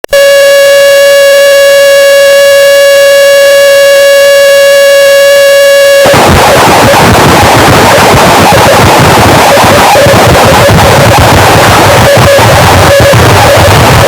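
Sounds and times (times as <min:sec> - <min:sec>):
dense crackling noise: 0:00.0 - 0:14.0
loud buzzing tone: 0:00.0 - 0:14.0.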